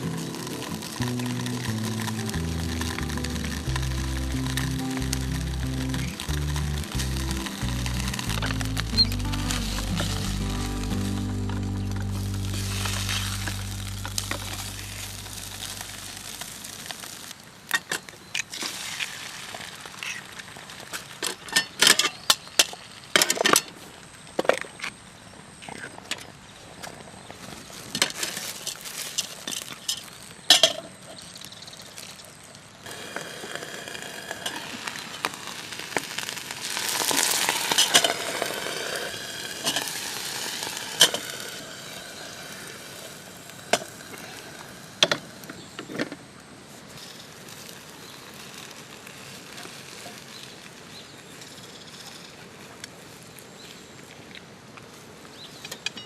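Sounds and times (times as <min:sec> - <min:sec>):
food sizzling in a pan: 0:00.0 - 0:17.8, 0:18.5 - 0:21.2, 0:28.2 - 0:45.7, 0:46.9 - 0:53.8.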